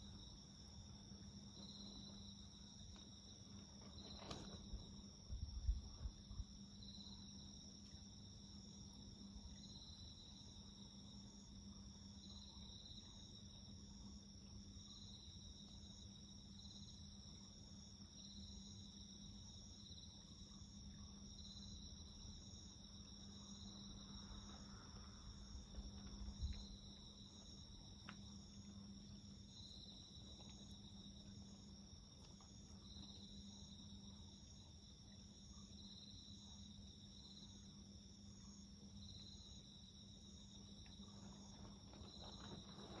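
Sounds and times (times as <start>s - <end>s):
insect chirp pulsing: 0.0s - 43.0s.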